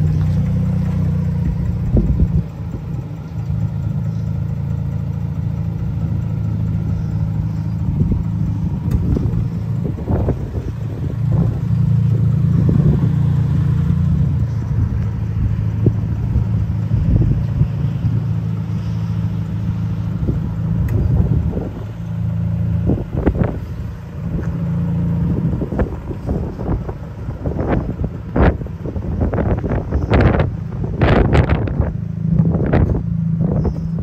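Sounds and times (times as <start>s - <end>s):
rotary engine idling: 0.0s - 34.0s.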